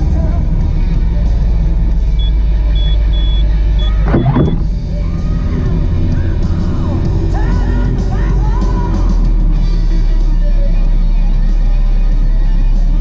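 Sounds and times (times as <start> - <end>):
motorcycle engine drone: 0.0 - 12.9
rock music from stereo: 0.0 - 13.0.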